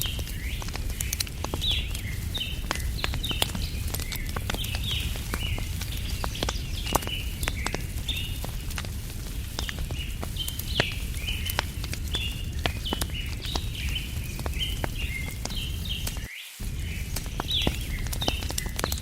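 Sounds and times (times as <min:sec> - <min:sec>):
bird chirping: 0:00.0 - 0:19.0
wood fire crackling and popping: 0:00.0 - 0:19.0.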